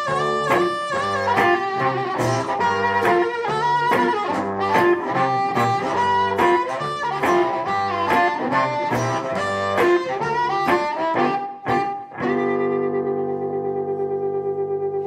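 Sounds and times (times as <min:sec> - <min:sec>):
blues harmonica: 0:00.0 - 0:15.0
slide guitar: 0:00.0 - 0:15.0.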